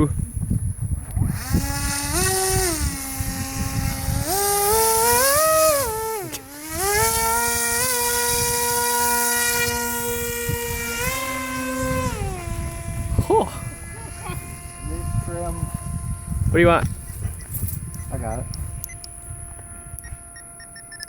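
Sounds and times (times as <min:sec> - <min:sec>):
electric motor and propeller whining: 0:00.0 - 0:21.0.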